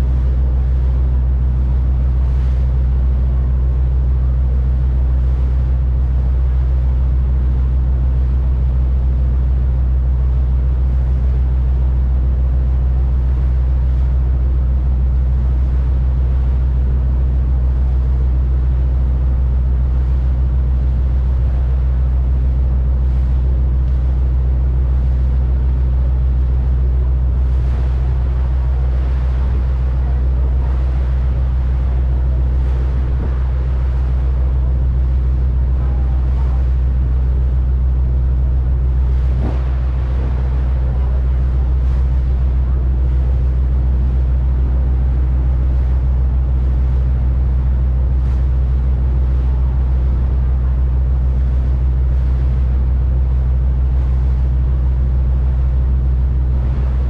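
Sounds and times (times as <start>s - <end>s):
ferry engines droning: 0.0s - 57.0s
hiss of wind and water: 0.0s - 57.0s.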